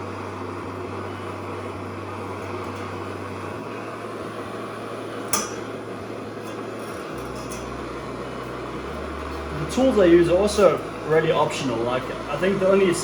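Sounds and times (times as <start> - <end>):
low hum: 0.0 - 13.0
machinery hum and hiss: 0.0 - 13.0.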